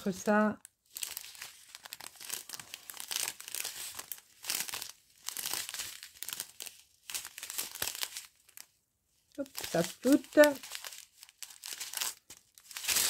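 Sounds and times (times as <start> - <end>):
plastic bags crinkling: 0.7 - 13.0.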